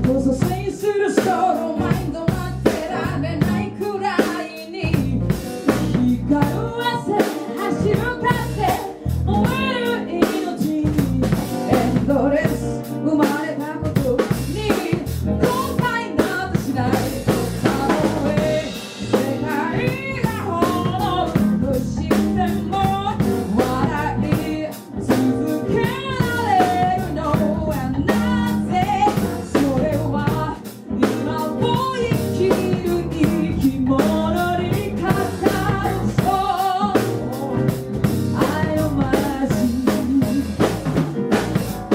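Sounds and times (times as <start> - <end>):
person singing: 0.0 - 40.8
band music: 0.0 - 41.9
drum kit beat: 0.0 - 41.9.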